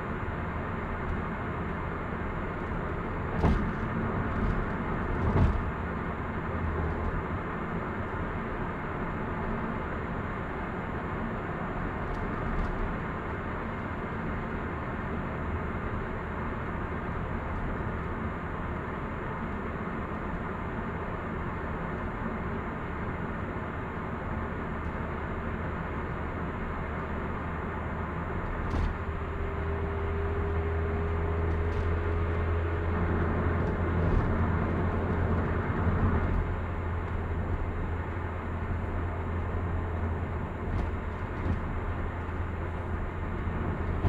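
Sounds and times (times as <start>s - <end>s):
low engine hum: 0.0s - 44.0s
tyre and road roar: 0.0s - 44.0s.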